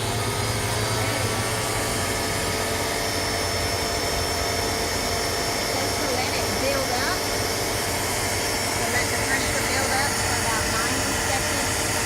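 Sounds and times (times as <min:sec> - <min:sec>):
pressure washer motor whining: 0:00.0 - 0:12.0.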